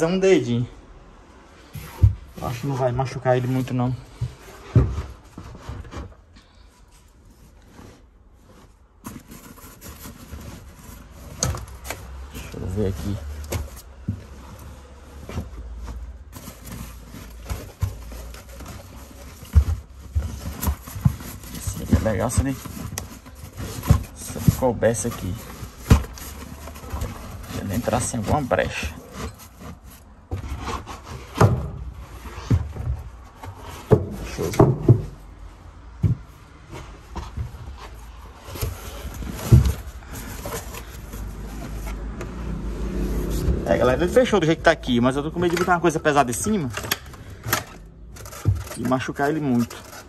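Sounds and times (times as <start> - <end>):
knocks and thumps of handling: 1.6 - 42.4, 43.2 - 50.0.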